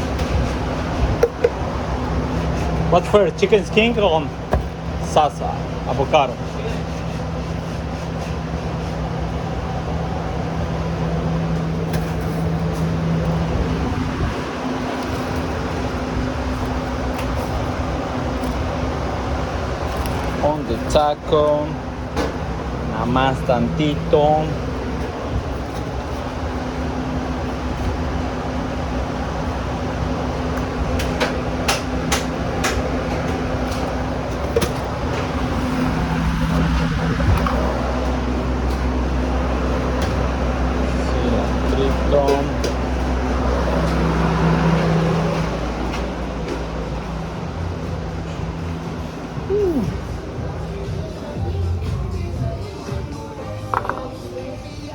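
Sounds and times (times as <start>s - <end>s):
machine hum with rushing noise: 0.0s - 54.9s.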